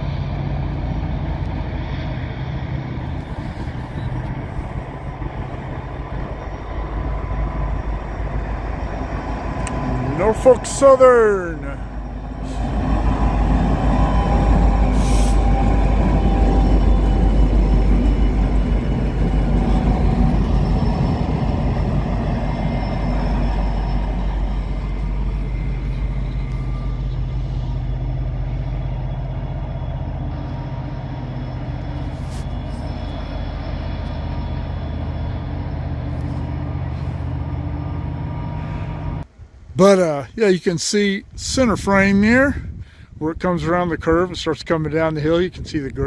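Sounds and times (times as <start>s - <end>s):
train wheels on rails: 0.0s - 39.3s
diesel locomotive engine rumble: 0.0s - 46.0s.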